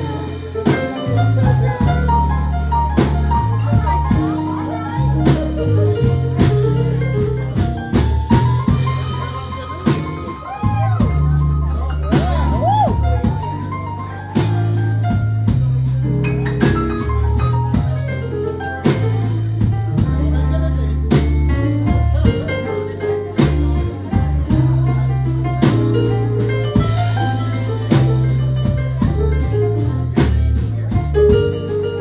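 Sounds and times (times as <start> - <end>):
drum kit: 0.0 - 32.0
keyboard: 0.0 - 32.0
low bass notes: 0.0 - 32.0.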